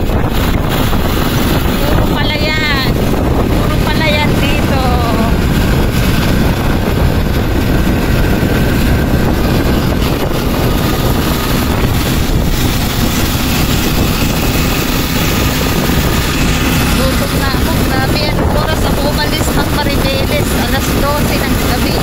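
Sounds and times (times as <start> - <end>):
motorcycle engine running: 0.0 - 22.0
road noise: 0.0 - 22.0
wind noise: 0.0 - 22.0.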